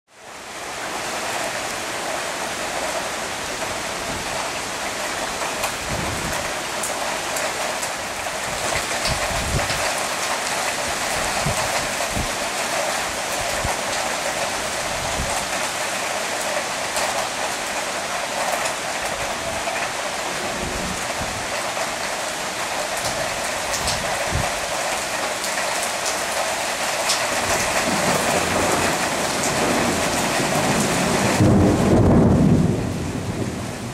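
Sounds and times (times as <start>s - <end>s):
heavy rain on paving: 0.1s - 33.9s.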